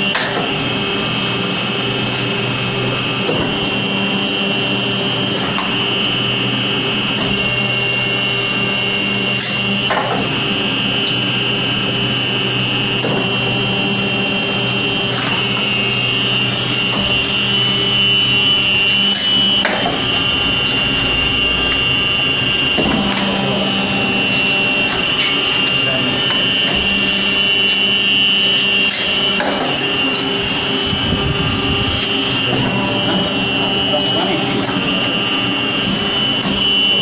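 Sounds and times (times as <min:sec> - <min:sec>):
hydraulic press hum and whine: 0:00.0 - 0:37.0.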